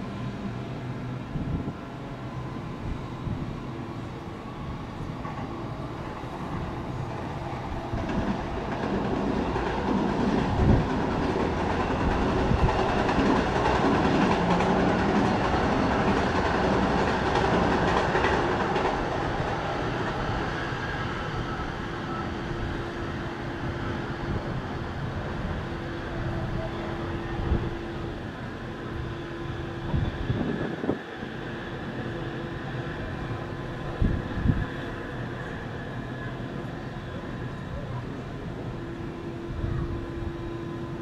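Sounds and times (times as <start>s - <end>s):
train passing: 0.0s - 41.0s.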